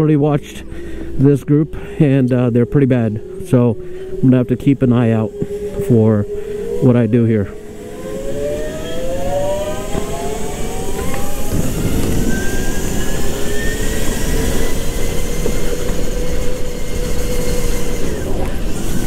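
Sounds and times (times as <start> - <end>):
rush of noise: 0.6 - 19.0
go-kart motor speeding up: 2.0 - 19.0.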